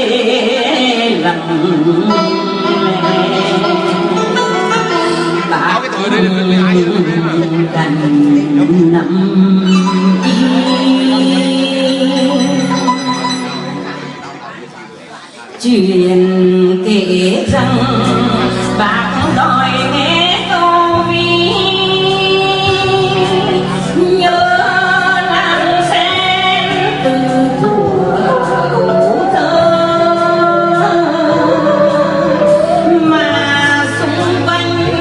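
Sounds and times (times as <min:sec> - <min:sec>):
woman singing a slow song: 0:00.0 - 0:14.2, 0:15.6 - 0:35.0
instrumental accompaniment: 0:00.0 - 0:35.0.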